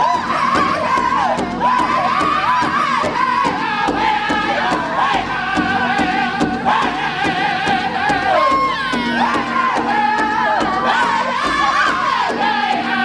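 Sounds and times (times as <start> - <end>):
group singing high chant: 0.0 - 13.0
steady drumbeat: 0.0 - 13.0.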